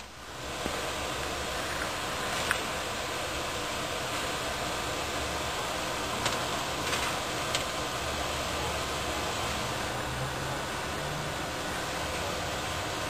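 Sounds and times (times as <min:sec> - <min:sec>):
fan whirring hiss: 0:00.0 - 0:13.0.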